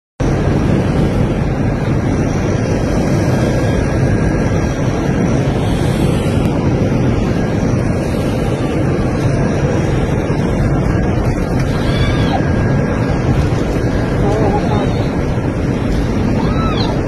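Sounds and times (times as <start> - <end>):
airliner cabin roar: 0.2 - 17.0.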